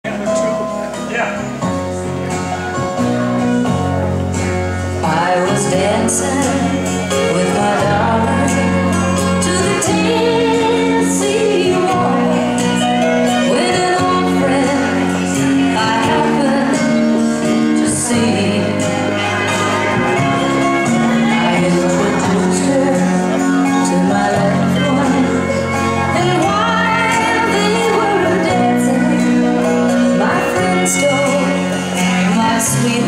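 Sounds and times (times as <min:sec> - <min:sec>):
waltz music: 0:00.1 - 0:33.0
person singing: 0:05.0 - 0:33.0.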